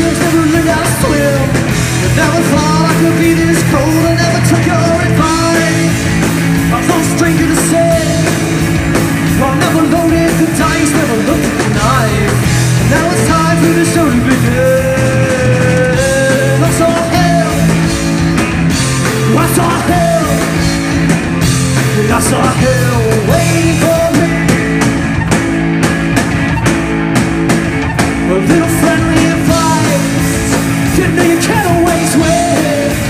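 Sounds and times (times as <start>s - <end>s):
drum kit: 0.0s - 33.0s
electric bass: 0.0s - 33.0s
electric guitar: 0.0s - 33.0s.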